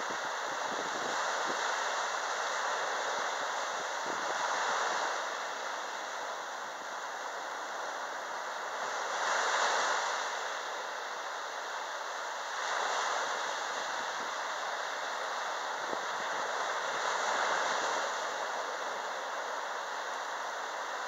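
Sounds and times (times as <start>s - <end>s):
small waves breaking on beach: 0.0s - 21.0s.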